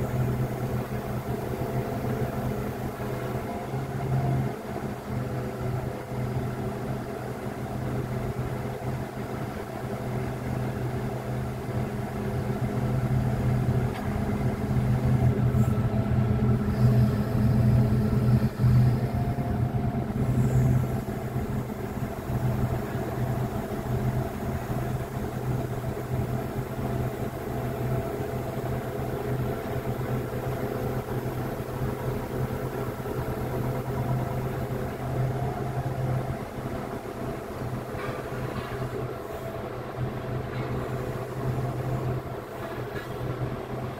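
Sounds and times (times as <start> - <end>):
crane machinery humming: 0.0 - 43.9.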